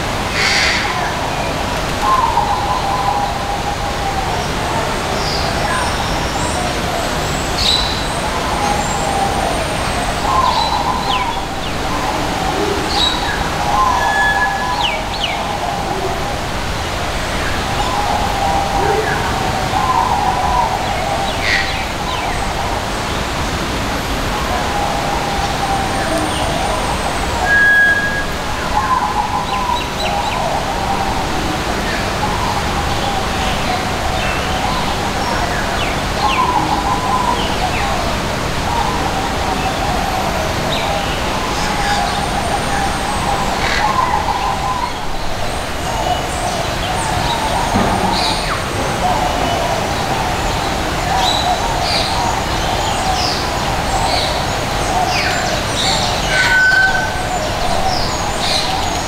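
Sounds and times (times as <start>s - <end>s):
rushing outdoor ambience: 0.0s - 59.0s.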